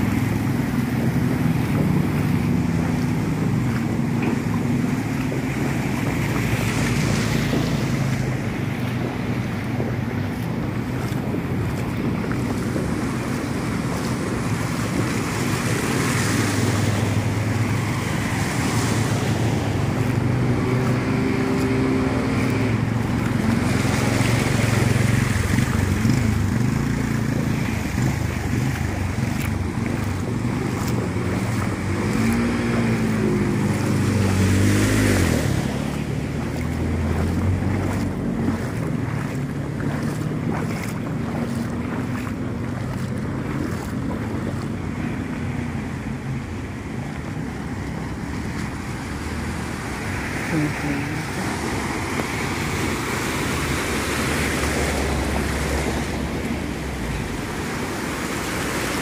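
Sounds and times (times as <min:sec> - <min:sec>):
vehicle engine hum: 0:00.0 - 0:59.0
water splashing: 0:00.0 - 0:59.0.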